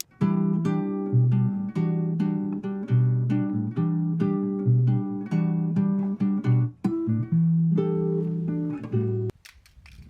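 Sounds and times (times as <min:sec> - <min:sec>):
plucked acoustic guitar: 0:00.0 - 0:09.3.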